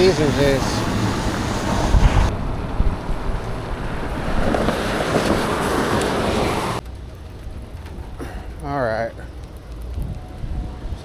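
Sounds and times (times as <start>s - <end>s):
wind buffeting microphone: 0.0s - 8.2s, 9.3s - 11.0s.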